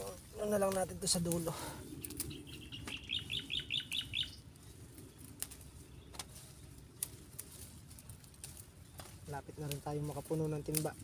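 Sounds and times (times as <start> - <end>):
small bird chirping: 1.0 - 10.9.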